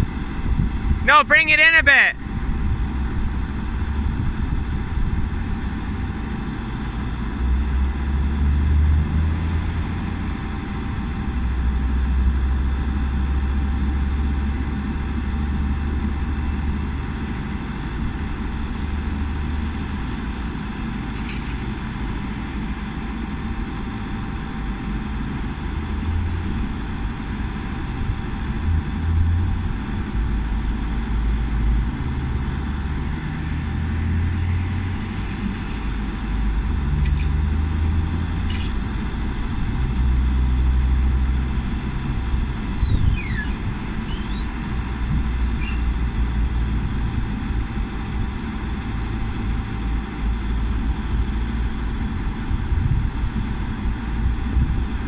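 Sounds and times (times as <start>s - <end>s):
diesel engine rumbling: 0.0s - 55.0s.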